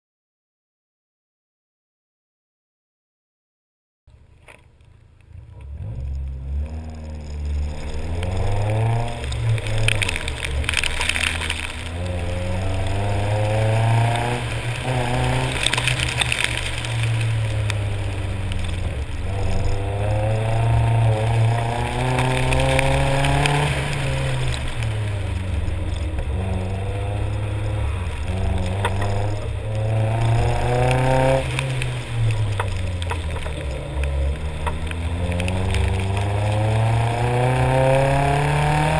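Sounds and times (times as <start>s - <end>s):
car engine revving: 4.3s - 38.9s.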